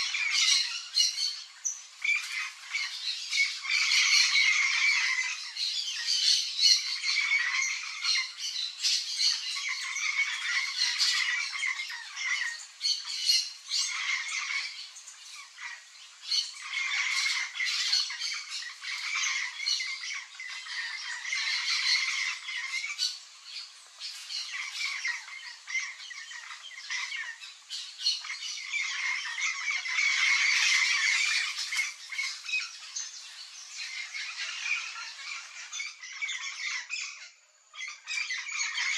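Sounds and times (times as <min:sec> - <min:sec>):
parrots squawking: 0:02.0 - 0:08.4, 0:09.3 - 0:37.2, 0:37.8 - 0:38.9.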